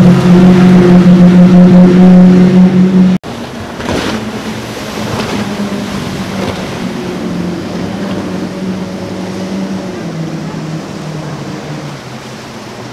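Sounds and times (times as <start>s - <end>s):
outboard motors droning: 0.0s - 12.9s
rush of wake and spray: 0.0s - 12.9s.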